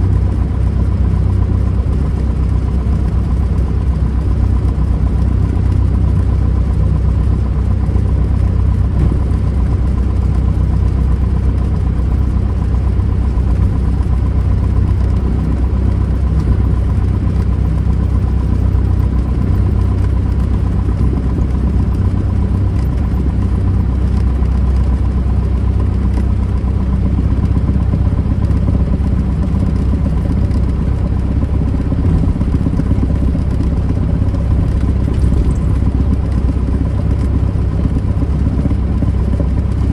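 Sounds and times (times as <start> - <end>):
airplane engine and propeller rumbling: 0.0 - 39.9.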